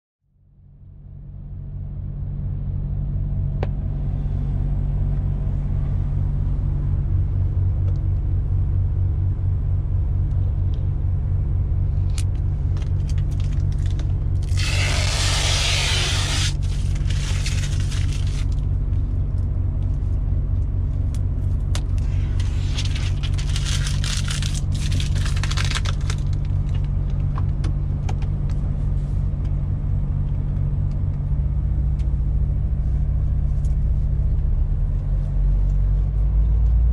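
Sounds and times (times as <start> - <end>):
truck diesel engine running: 0.8 - 36.9.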